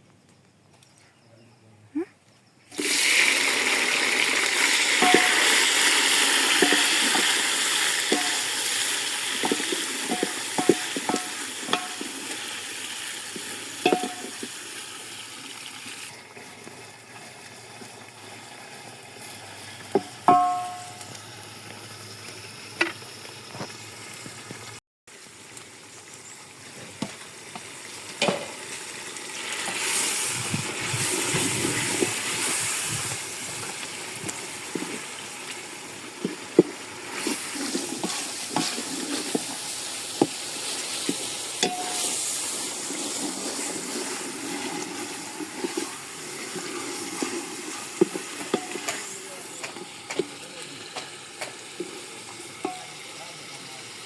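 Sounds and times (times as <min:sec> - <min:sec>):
food sizzling in a pot: 0:02.7 - 0:54.0.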